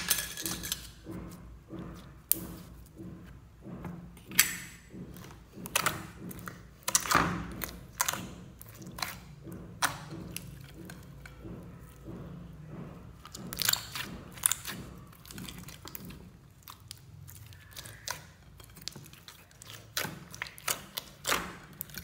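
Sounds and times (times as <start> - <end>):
slime squelching: 0.0 - 22.0.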